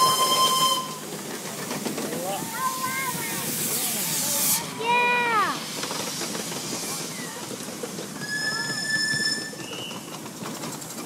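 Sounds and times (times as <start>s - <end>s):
miniature train wheels clattering: 0.0s - 4.0s, 4.8s - 11.0s
high steady train squeal: 0.0s - 11.0s.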